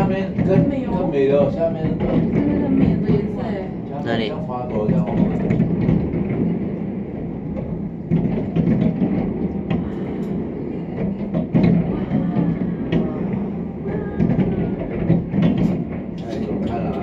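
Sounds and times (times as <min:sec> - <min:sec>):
low rumble of firework bursts: 0:00.0 - 0:17.0.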